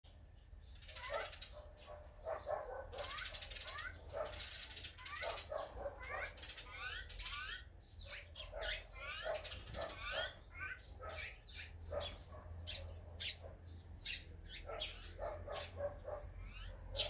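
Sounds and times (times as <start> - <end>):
songbirds chirping: 0.1 - 17.0.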